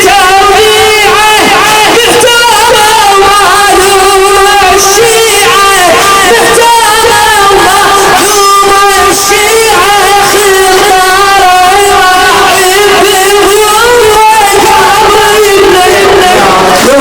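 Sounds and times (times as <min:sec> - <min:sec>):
man chanting a lament: 0:00.0 - 0:17.0.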